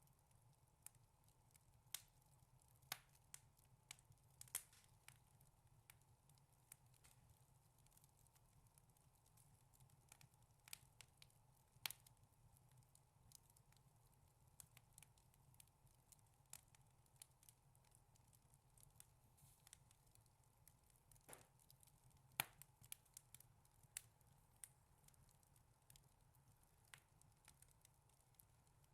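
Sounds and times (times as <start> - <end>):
wood fire crackling: 0.0 - 28.9
fire popping: 0.8 - 28.9.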